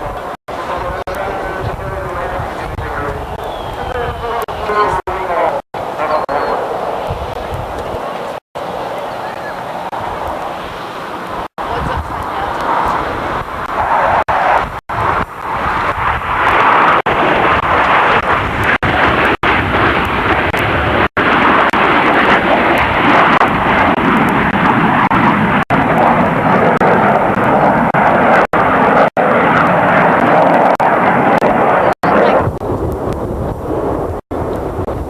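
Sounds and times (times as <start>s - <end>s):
jet engine noise: 0.0s - 35.0s.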